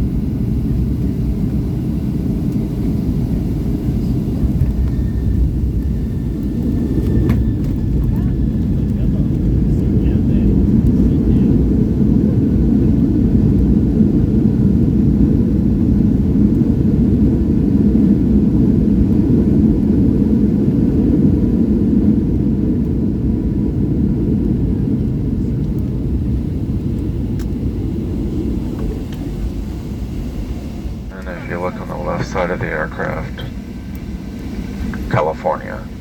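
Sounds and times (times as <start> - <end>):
jet landing rumble: 0.0 - 36.0.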